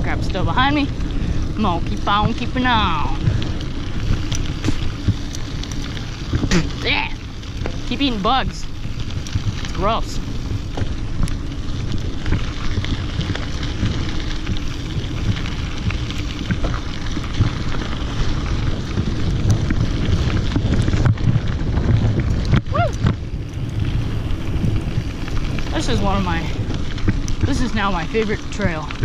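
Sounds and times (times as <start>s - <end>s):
bike tyres crunching on gravel: 0.0s - 29.0s
wind buffeting microphone: 0.0s - 29.0s.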